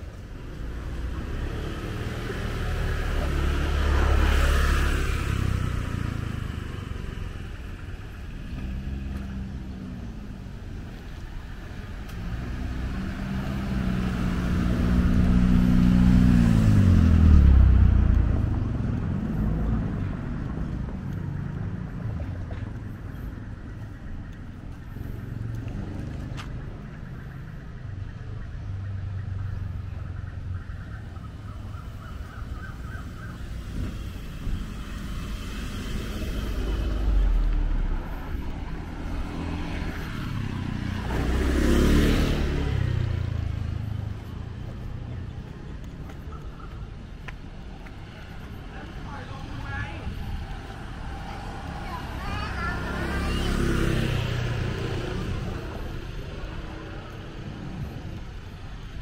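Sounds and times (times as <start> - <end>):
vehicle engine passing by: 0.0 - 10.6, 11.4 - 23.4, 24.8 - 59.0
road traffic rumble: 0.0 - 59.0.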